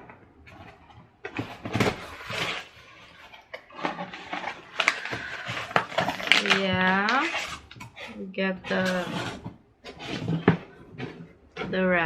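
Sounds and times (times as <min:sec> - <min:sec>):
cardboard and paper rustling: 0:00.0 - 0:12.0.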